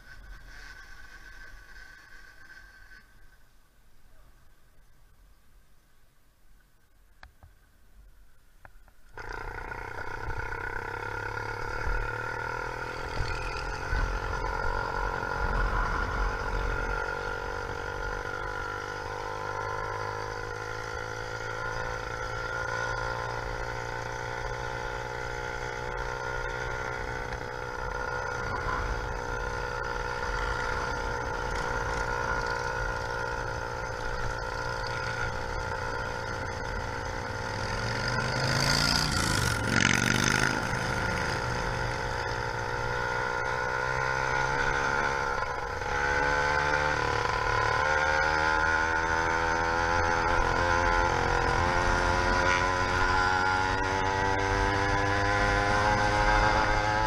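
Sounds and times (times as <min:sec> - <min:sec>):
two-stroke engine running: 0:09.2 - 0:57.0.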